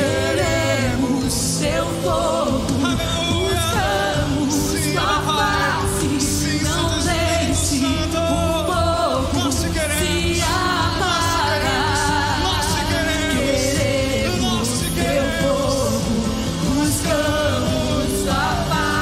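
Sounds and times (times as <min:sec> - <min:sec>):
drum and cymbal beat: 0:00.0 - 0:19.0
person singing: 0:00.0 - 0:19.0
worship band playing: 0:00.0 - 0:19.0.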